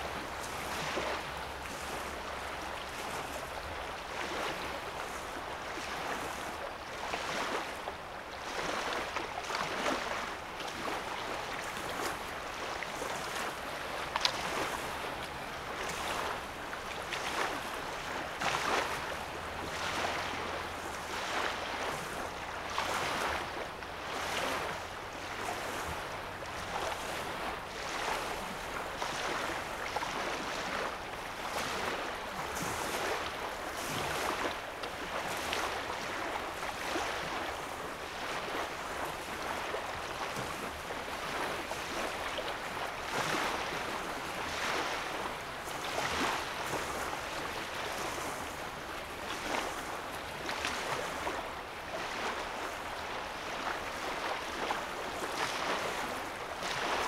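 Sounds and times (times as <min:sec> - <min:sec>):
waves lapping on sandy shore: 0:00.0 - 0:57.0.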